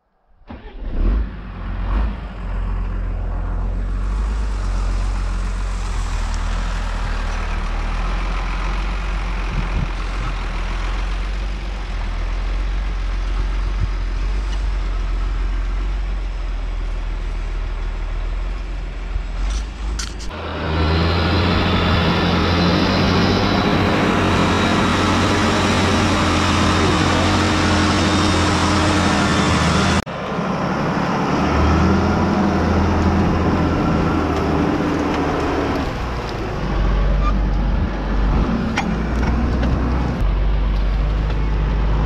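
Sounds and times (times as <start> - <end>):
diesel tractor engines running: 0.5 - 42.0.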